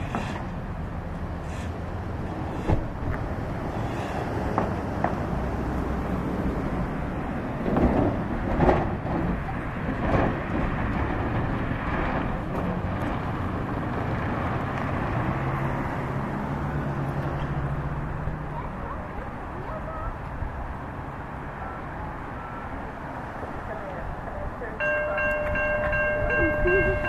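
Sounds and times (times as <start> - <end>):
cars passing: 0.0 - 27.0
truck engines humming: 0.0 - 27.0.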